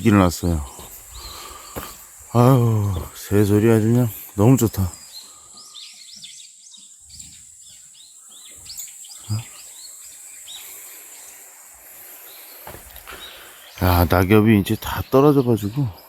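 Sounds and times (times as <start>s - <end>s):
small birds chirping: 0.0s - 16.0s
steady high hiss: 0.0s - 16.0s.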